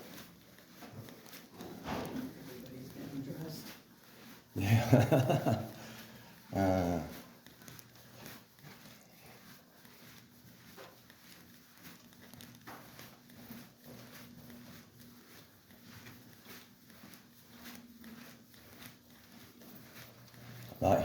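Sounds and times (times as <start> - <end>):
faint footsteps walking: 0.0 - 21.0.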